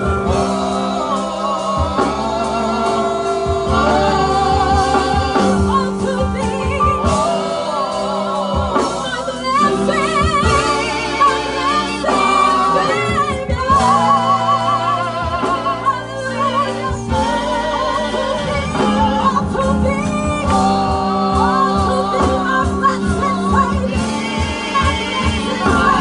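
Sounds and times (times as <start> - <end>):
backing voices singing: 0.0 - 26.0
instrumental backing: 0.0 - 26.0
steady low beats: 0.0 - 26.0
woman singing with vibrato: 0.0 - 26.0.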